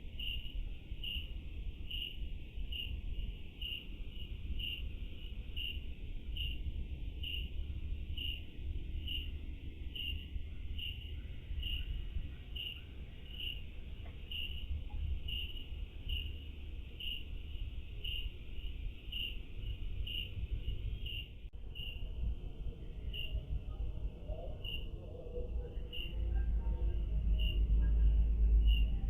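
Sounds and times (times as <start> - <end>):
cricket chirping: 0.0 - 29.0
low steady rumble: 0.0 - 29.0.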